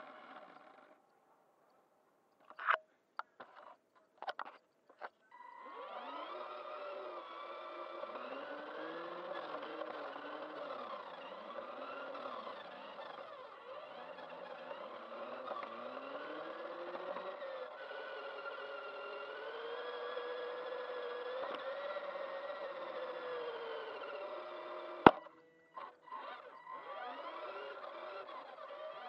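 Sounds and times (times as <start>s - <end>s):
toy car electric motor whining: 0.0s - 1.0s, 5.3s - 29.0s.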